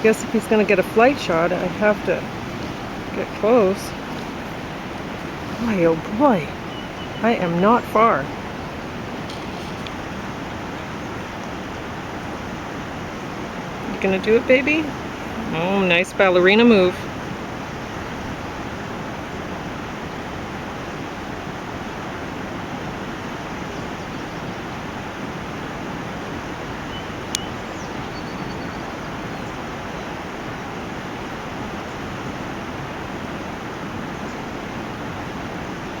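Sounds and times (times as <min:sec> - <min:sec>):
outdoor background rush: 0:00.0 - 0:36.0.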